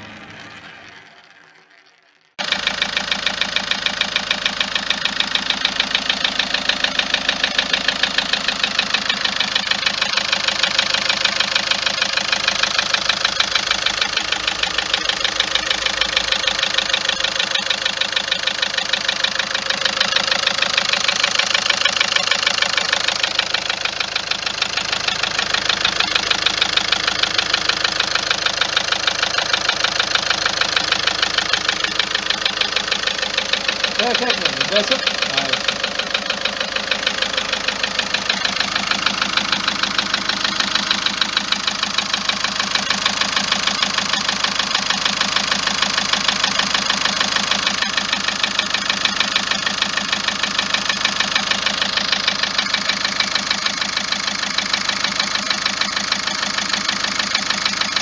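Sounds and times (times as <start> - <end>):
car engine idling with ticking knock: 2.4 - 58.0.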